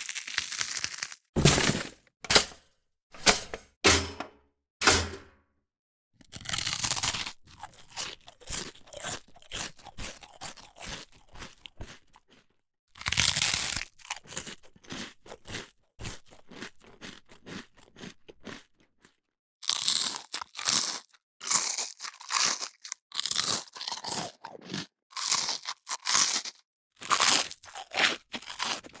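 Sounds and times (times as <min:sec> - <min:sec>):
crunching toast being chewed: 0:00.0 - 0:01.3, 0:06.2 - 0:29.0.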